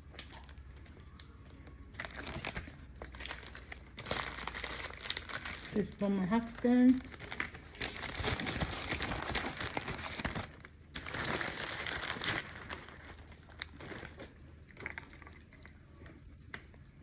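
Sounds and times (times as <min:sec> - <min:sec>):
packaging crinkling and rustling: 0:01.9 - 0:15.7.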